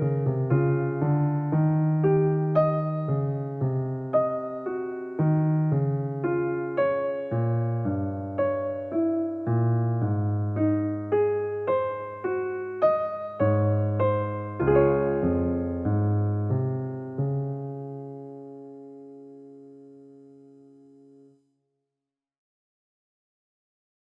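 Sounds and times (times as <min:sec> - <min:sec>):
slow piano music: 0:00.0 - 0:21.4.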